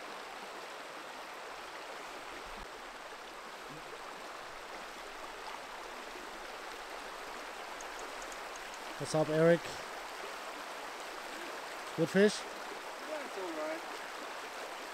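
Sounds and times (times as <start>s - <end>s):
river rushing over rocks: 0.0s - 14.9s.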